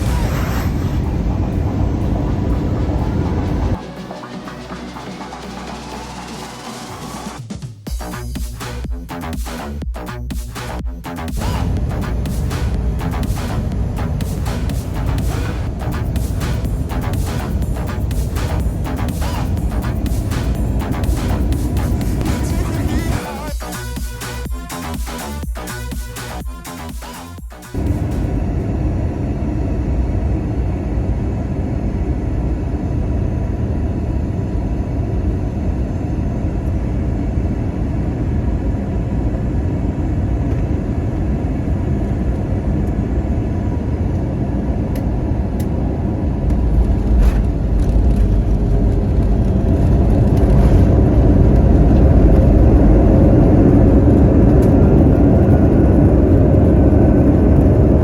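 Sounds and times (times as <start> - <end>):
aircraft cabin engine roar: 0.0 - 7.5, 11.1 - 25.9, 27.7 - 58.0
heavy low rumble: 0.0 - 58.0.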